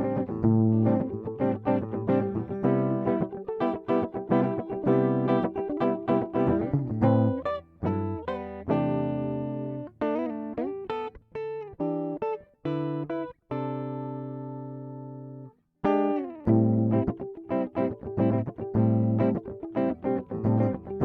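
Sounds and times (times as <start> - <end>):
guitar playing notes and chords: 0.0 - 21.0.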